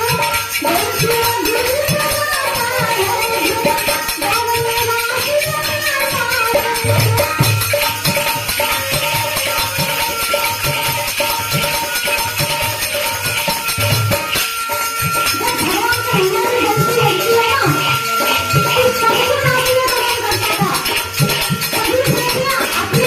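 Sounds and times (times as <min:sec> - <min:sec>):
jangling hand percussion: 0:00.0 - 0:23.0.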